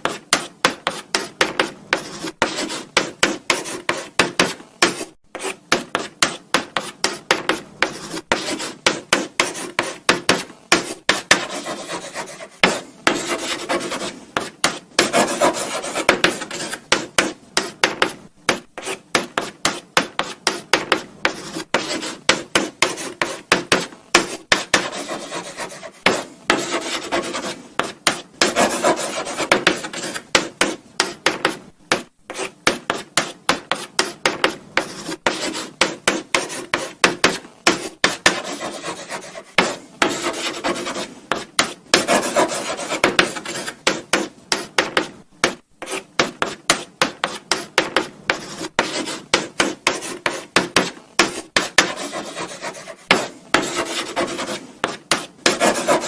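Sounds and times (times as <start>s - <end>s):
chalk scratching on blackboard: 0.0s - 56.0s.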